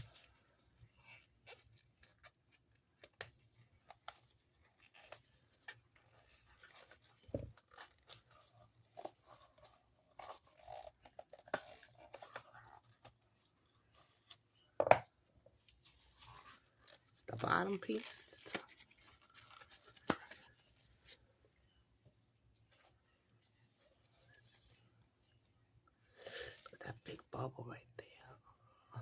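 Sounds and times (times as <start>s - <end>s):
silicone mold peeling and crackling: 0.0s - 24.3s.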